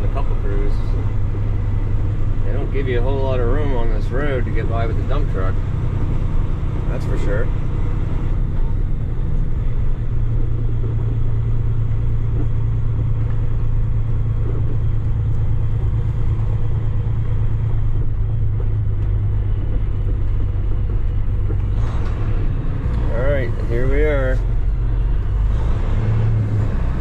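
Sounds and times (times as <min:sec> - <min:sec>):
truck diesel engine drone: 0:00.0 - 0:27.0.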